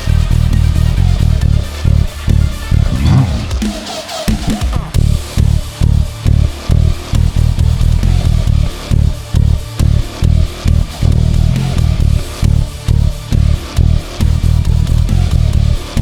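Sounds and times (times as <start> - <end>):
electric bass guitar: 0.0 - 3.6, 5.0 - 16.0
backing music: 0.0 - 16.0.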